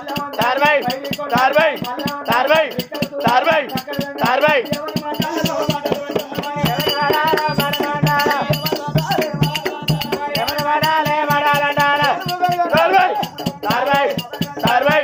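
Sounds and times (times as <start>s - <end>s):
folk ballad singing: 0.0s - 15.0s
hand percussion beat: 0.0s - 15.0s.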